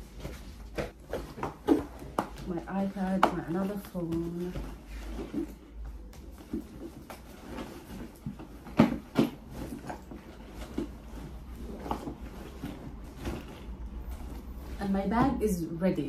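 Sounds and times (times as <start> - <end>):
fabric bag rustling: 0.0 - 16.0.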